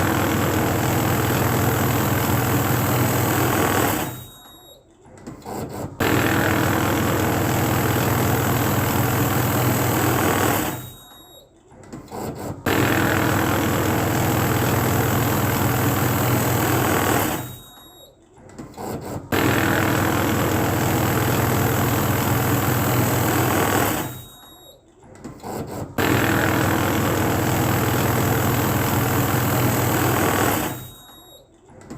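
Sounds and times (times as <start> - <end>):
banknote counting machine running: 0.0 - 4.7, 5.4 - 11.4, 12.0 - 18.0, 18.7 - 24.7, 25.4 - 31.4.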